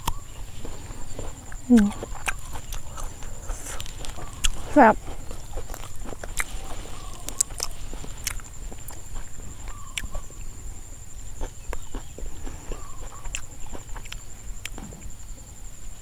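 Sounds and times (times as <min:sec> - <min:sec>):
wet chewing and lip smacks: 0:00.0 - 0:10.4, 0:11.4 - 0:14.9.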